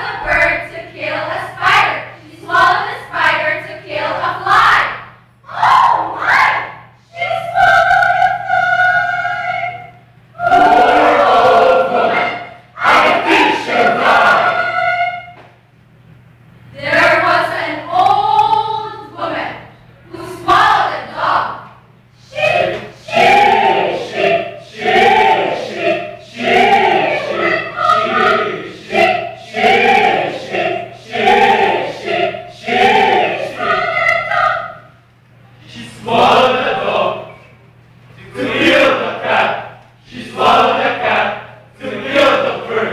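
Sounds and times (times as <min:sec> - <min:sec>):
choir singing held notes: 0:00.0 - 0:15.6, 0:20.1 - 0:37.6, 0:38.2 - 0:42.9.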